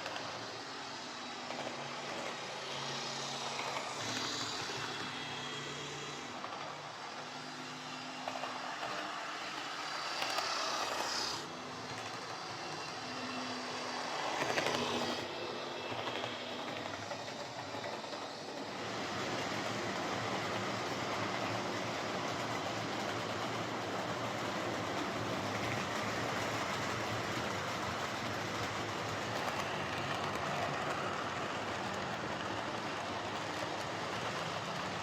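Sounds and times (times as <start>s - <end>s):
model train motor whirr: 0.0s - 35.0s
wheels rattling on rail: 0.0s - 35.0s.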